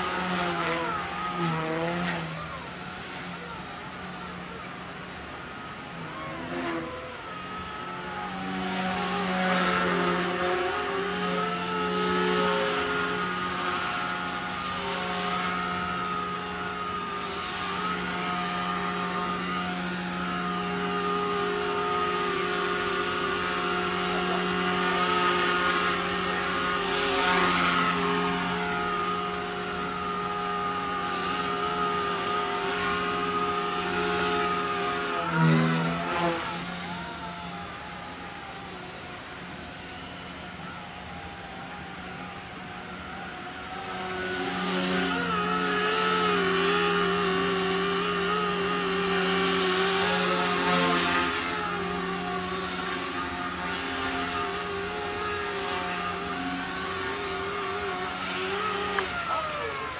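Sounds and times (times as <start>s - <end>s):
rc helicopter whine: 0.0s - 59.9s.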